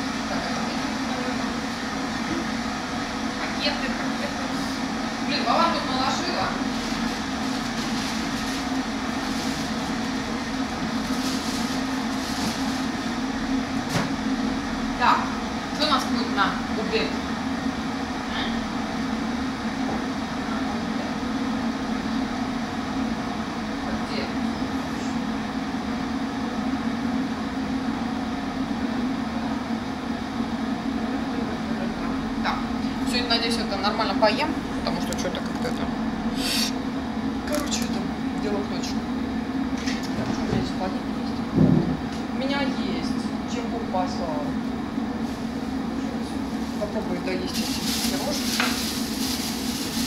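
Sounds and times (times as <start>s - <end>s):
electric kettle heating water: 0.0s - 11.0s, 11.8s - 45.9s.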